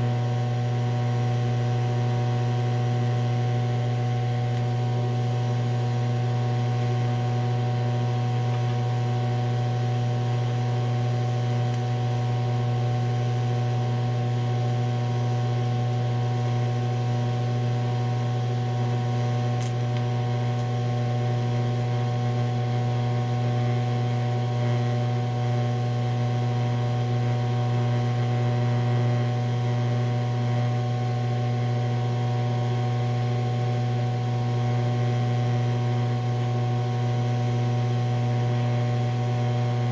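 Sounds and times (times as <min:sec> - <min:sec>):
welding arc buzzing hum: 0:00.0 - 0:39.9.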